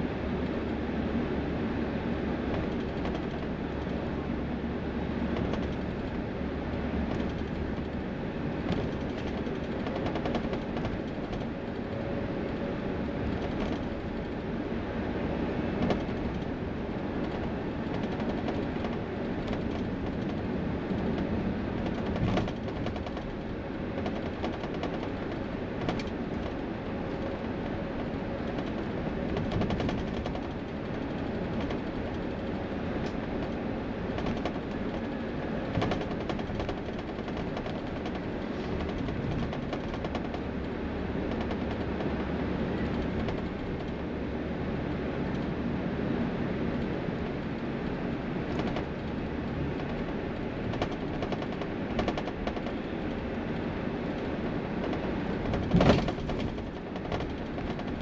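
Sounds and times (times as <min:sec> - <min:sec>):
highway traffic noise: 0:00.0 - 0:58.0.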